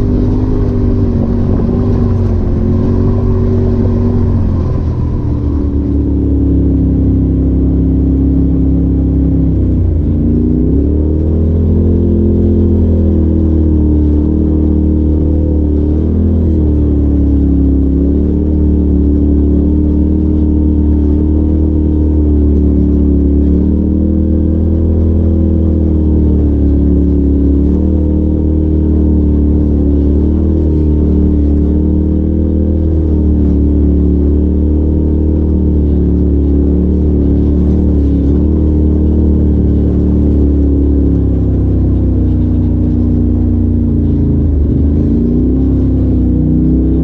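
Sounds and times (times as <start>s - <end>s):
turbocharged engine running: 0.0s - 47.0s.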